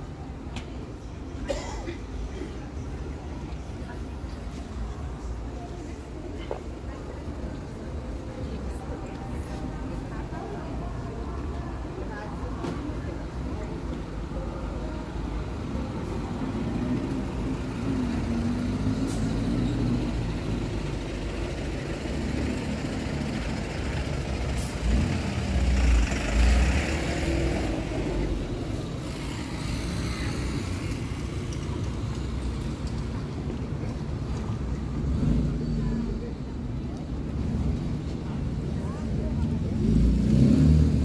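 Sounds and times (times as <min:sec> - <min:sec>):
traffic engine rumble: 0:00.0 - 0:41.0.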